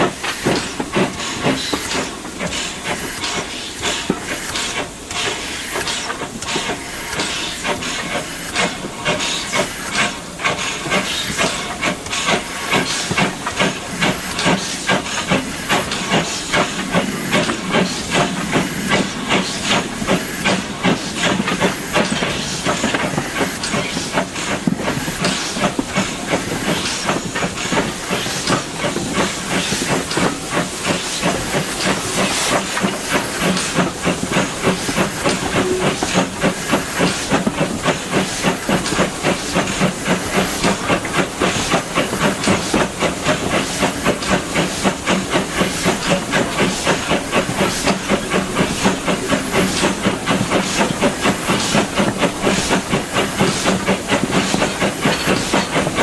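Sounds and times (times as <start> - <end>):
steam hissing: 0.0 - 56.0
steam locomotive exhaust beats: 0.0 - 56.0.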